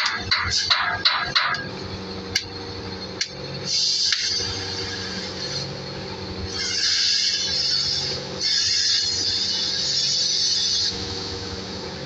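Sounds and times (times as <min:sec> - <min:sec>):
cutting torch jet hissing: 0:00.0 - 0:01.7, 0:03.2 - 0:12.0.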